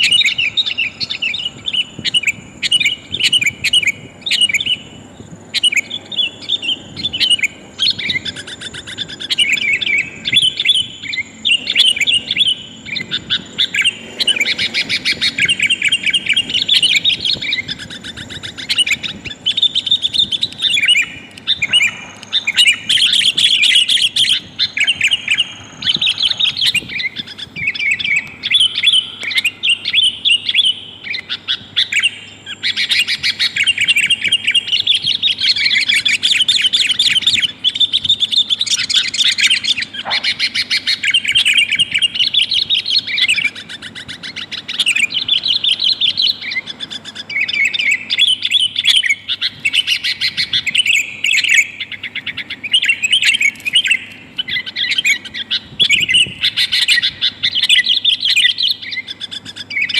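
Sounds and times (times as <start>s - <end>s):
bulbul chattering calls: 0.0s - 59.9s.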